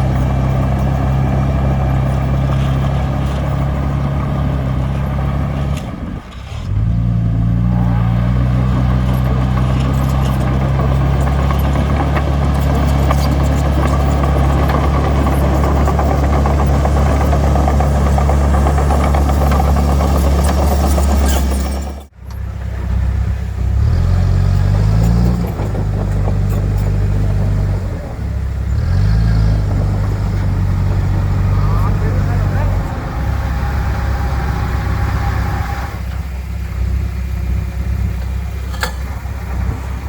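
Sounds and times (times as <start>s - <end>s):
diesel engine revving: 0.0s - 40.0s
diesel engine running: 0.0s - 40.0s.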